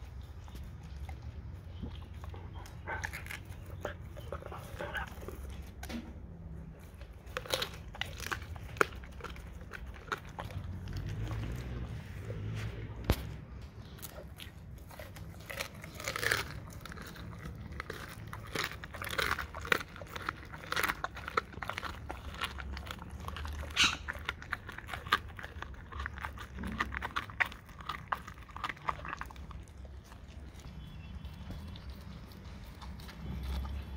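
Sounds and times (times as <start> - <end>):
dog chewing bone: 0.0 - 33.9.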